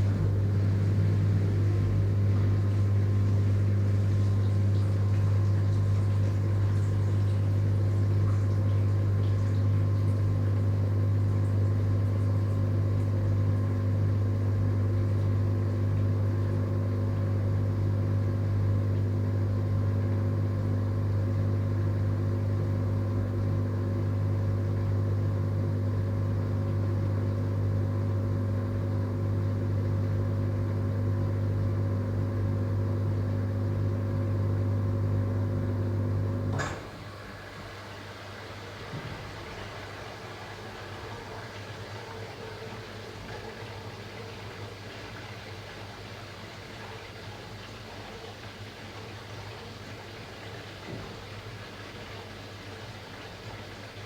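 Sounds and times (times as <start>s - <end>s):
dishwasher running: 0.0s - 20.6s, 31.2s - 54.0s.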